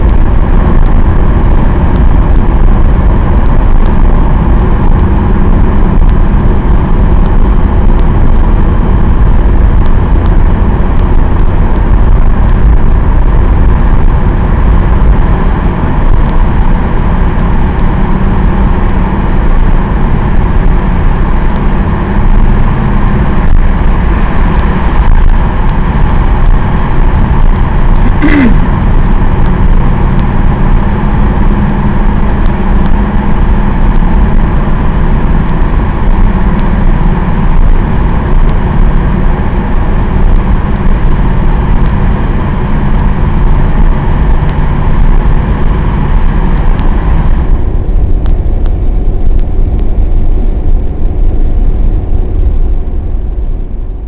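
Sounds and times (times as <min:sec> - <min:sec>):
diesel engine from inside car: 0:00.0 - 0:54.0
road noise: 0:00.0 - 0:54.0.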